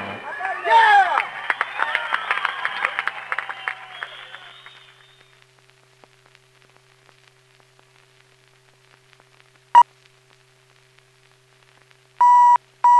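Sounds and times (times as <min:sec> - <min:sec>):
film soundtrack crackle: 0:00.0 - 0:12.9
low steady hum: 0:00.0 - 0:12.9.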